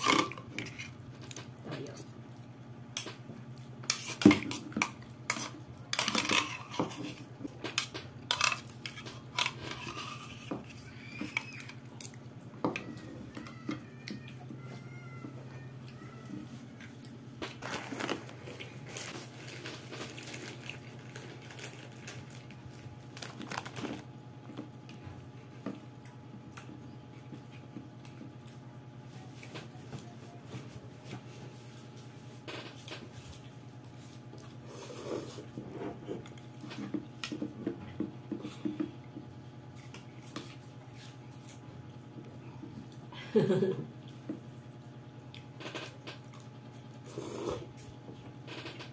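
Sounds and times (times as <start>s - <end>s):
soft chewing: 0.5s - 43.1s, 44.0s - 48.4s.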